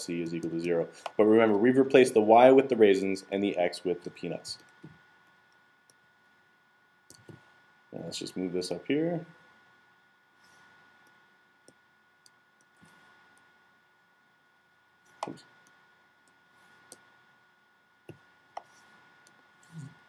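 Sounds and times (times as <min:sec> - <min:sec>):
faint high hum: 0:00.0 - 0:20.0.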